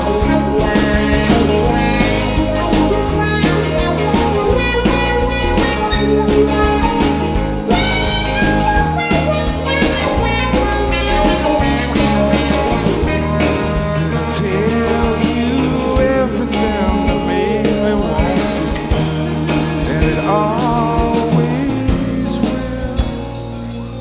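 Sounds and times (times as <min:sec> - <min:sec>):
drum kit beat: 0:00.0 - 0:24.0
guitar and bass: 0:00.0 - 0:24.0.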